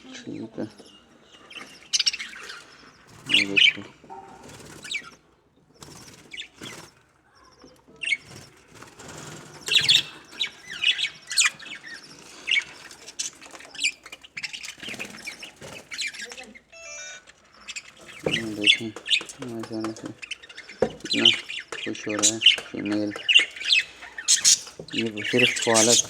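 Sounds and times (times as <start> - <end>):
budgerigars chirping: 0.0 - 26.0.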